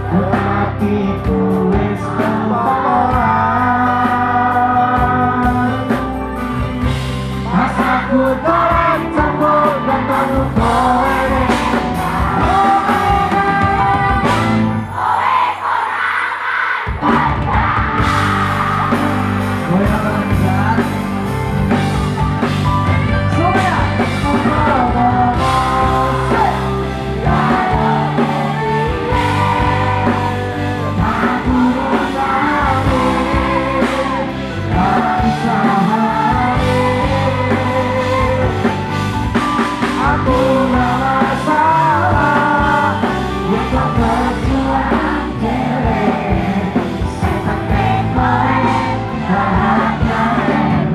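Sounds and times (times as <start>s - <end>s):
man singing: 0.0s - 6.5s, 7.3s - 14.7s, 18.0s - 21.8s, 23.0s - 50.9s
live band over loudspeakers: 0.0s - 50.9s.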